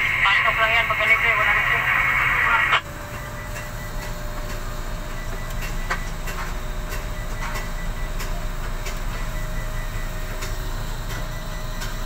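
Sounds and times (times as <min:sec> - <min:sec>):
crane mechanical hum and rumble: 0:00.0 - 0:12.0.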